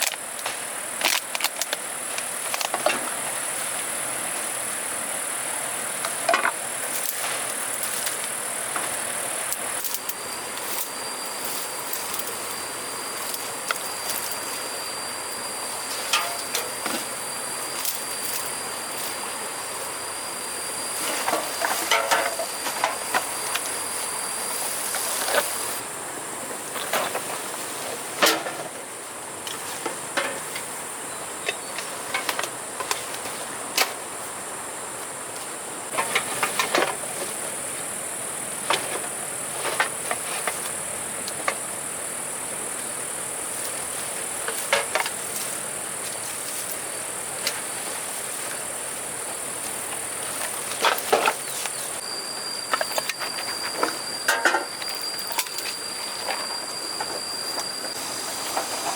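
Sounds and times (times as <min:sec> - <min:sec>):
high-pitched insect drone: 0:00.0 - 0:26.9, 0:34.3 - 0:58.9.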